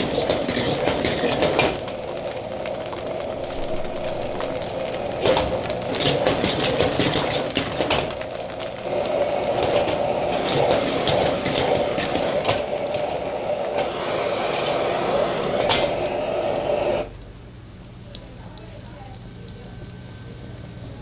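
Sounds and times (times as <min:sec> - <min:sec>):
wok clicking and scraping: 0:00.0 - 0:17.1
food sizzling in hot oil: 0:00.0 - 0:21.0
gas burner running: 0:00.0 - 0:21.0.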